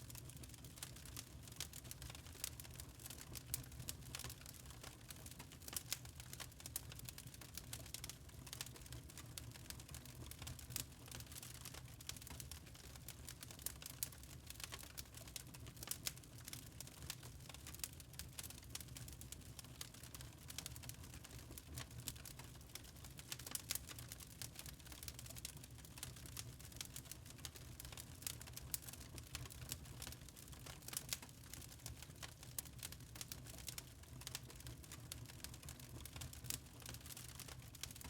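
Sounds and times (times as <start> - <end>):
low steady fire rumble: 0.0 - 38.0
wood fire crackling and popping: 0.1 - 38.0.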